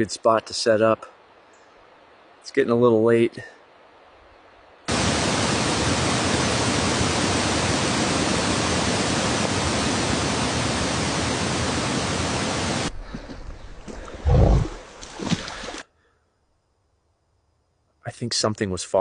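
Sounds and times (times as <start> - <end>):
steady hiss of noise: 0.0 - 19.0.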